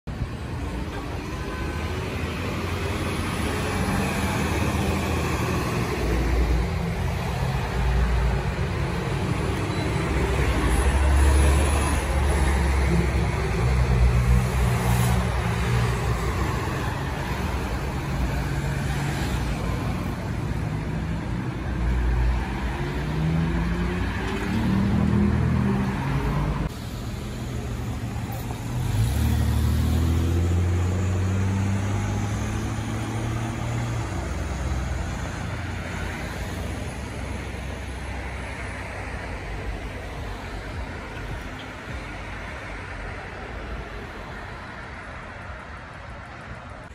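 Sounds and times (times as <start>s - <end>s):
street traffic: 0.0s - 46.9s
bus engines driving past: 0.1s - 46.9s.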